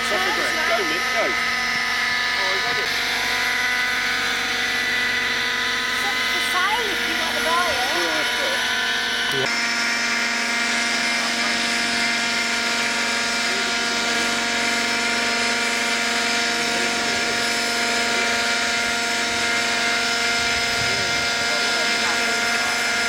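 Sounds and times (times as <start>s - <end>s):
model helicopter hovering: 0.0s - 23.0s.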